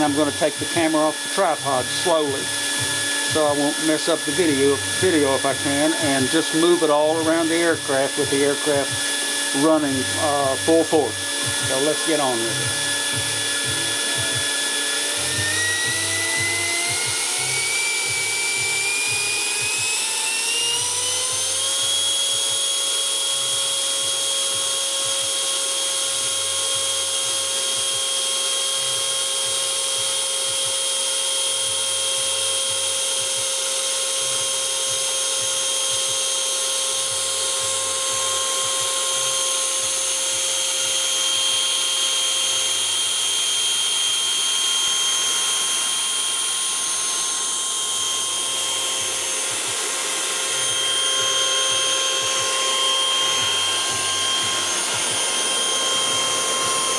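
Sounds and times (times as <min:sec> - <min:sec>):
electric ducted fan whine: 0:00.0 - 0:56.9.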